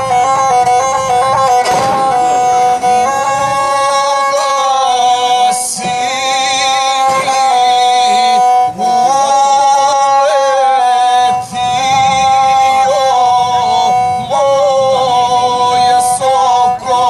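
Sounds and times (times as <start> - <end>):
bowed single-string fiddle: 0.0 - 17.0
person singing epic song: 0.0 - 17.0.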